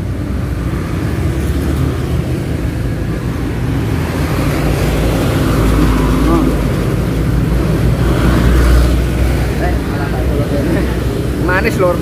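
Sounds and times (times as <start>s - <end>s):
traffic passing close by: 0.0s - 12.0s.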